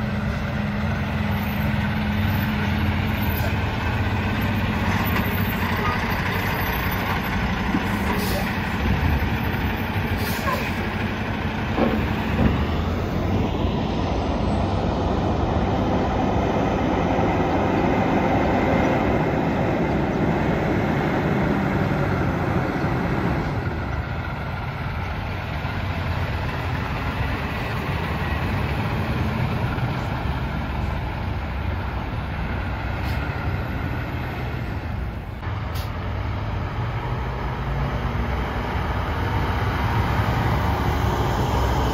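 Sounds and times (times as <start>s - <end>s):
trucks passing: 0.0s - 41.9s
tyres on road: 0.0s - 41.9s.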